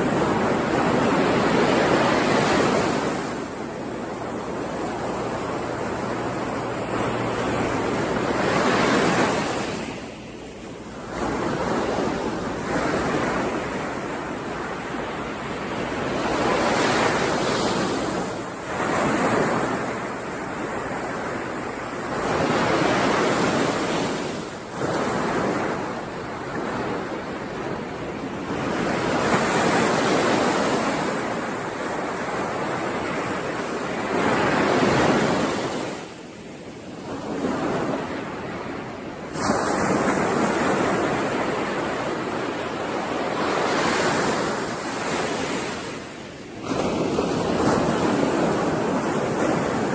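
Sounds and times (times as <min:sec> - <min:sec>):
sea waves breaking: 0:00.0 - 0:49.9.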